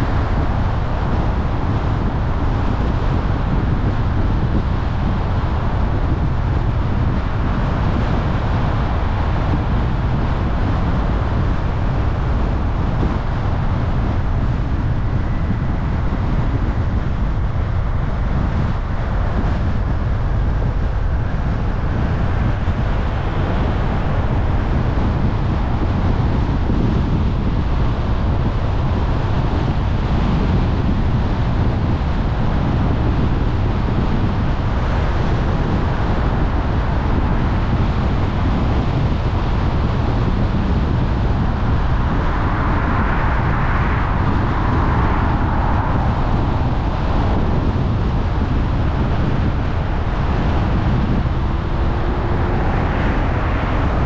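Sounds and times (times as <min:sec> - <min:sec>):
car tyre rumble: 0:00.0 - 0:54.0
wind buffeting microphone: 0:00.0 - 0:54.0.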